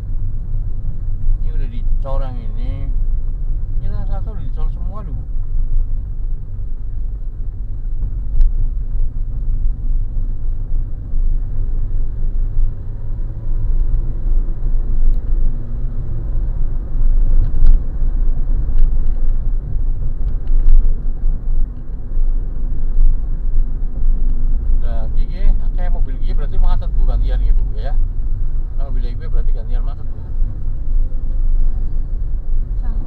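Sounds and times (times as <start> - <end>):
car engine rumble: 0.0 - 33.0
tyres on the road: 0.0 - 33.0.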